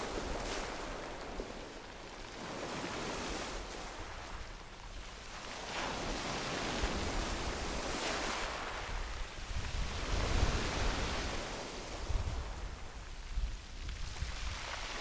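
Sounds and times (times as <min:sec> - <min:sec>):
waves on pebble beach: 0:00.0 - 0:04.5, 0:05.1 - 0:13.0, 0:14.1 - 0:15.0.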